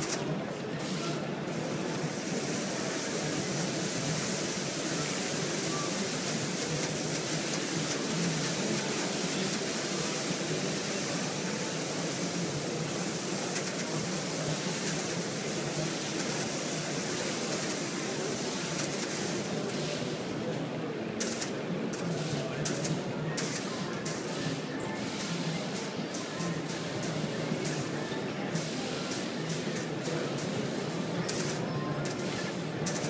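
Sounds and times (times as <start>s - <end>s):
distant crowd murmur: 0.0s - 33.0s
ventilation hiss: 0.0s - 33.0s.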